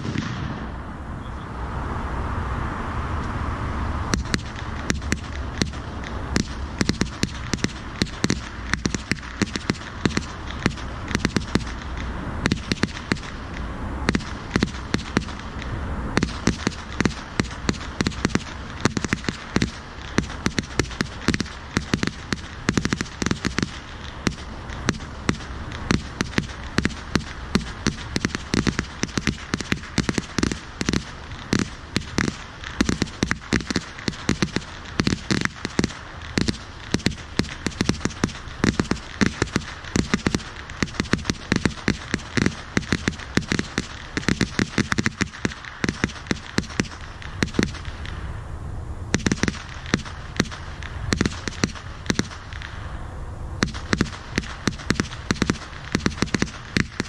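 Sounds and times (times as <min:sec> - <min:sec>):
firecrackers popping and cracking: 0:00.0 - 0:00.6, 0:04.1 - 0:48.3, 0:49.1 - 0:52.9, 0:53.6 - 0:57.0.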